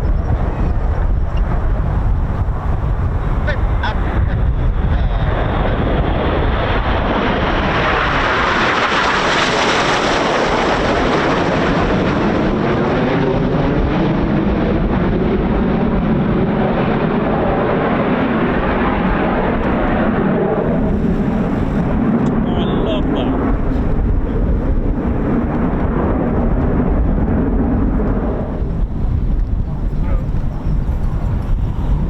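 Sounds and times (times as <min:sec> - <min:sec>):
wind rumble on microphone: 0:00.0 - 0:32.0
jets flying by: 0:00.1 - 0:32.0.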